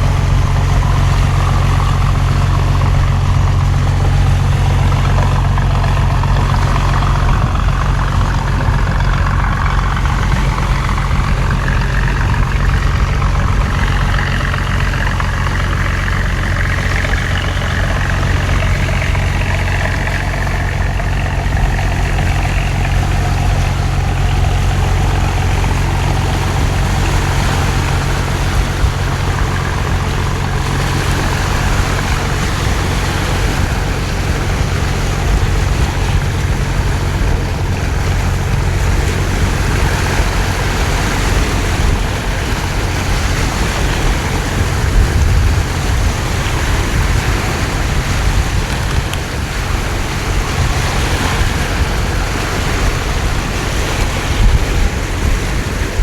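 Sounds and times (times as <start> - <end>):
boat engine humming: 0.0 - 56.0
heavy rain: 0.0 - 56.0
splashing water: 0.0 - 56.0.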